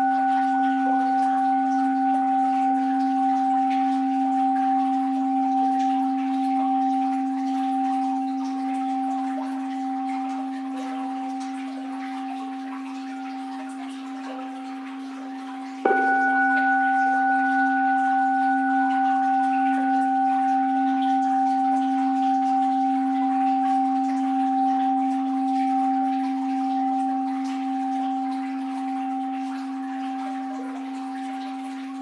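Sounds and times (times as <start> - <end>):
bowl bell ringing: 0.0 - 32.0.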